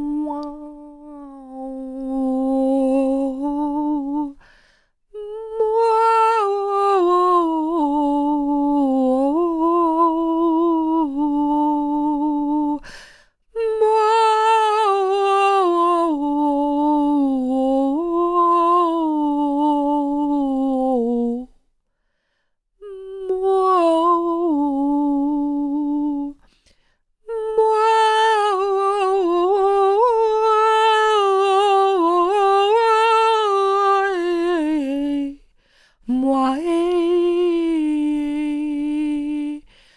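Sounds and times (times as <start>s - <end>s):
woman singing wordless melody: 0.0s - 21.6s, 22.8s - 39.9s.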